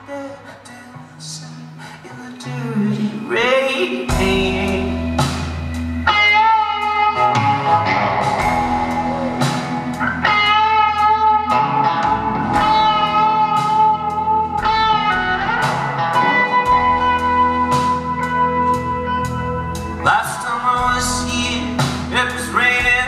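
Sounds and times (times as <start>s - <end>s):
electric guitar lead: 0.0s - 23.0s
rock band playing: 2.4s - 23.0s.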